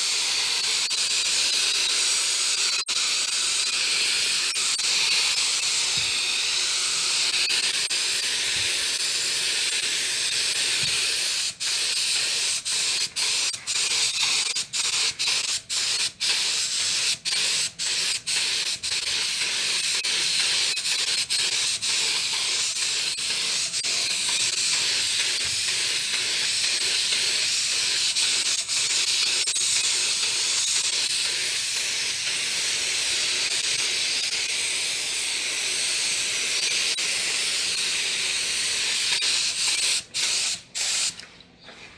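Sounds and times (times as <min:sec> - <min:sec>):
compressed air hissing from air gun: 0:00.0 - 0:41.2.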